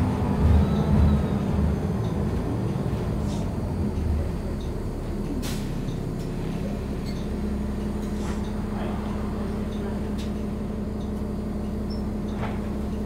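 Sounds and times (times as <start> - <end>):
bus engine and road rumble: 0.0 - 13.0
constant low hum: 0.0 - 13.0.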